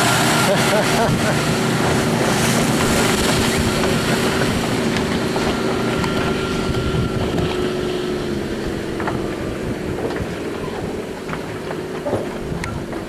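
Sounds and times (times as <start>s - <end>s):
hiss of boat wake: 0.0s - 11.2s
motorboat engine drone: 0.0s - 13.0s
wind on microphone: 1.0s - 13.0s.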